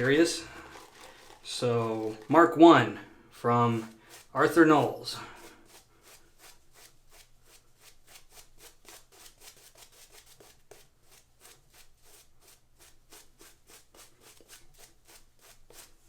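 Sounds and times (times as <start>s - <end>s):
shaving brush swishing lather: 0.0s - 16.0s.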